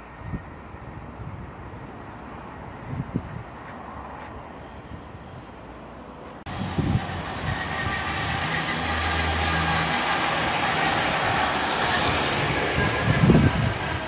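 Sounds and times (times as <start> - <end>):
approaching train rumble: 0.0 - 14.0.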